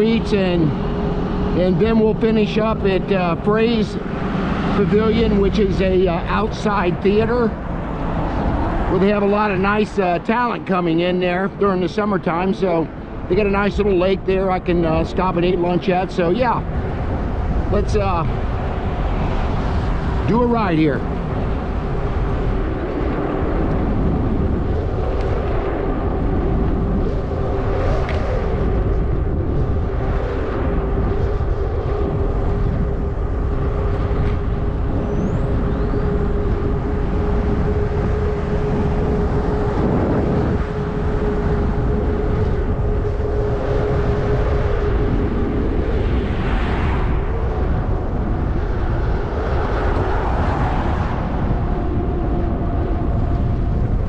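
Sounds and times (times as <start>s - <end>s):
e-bike motor whine: 0.0s - 54.0s
wind rushing over microphone: 0.0s - 54.0s.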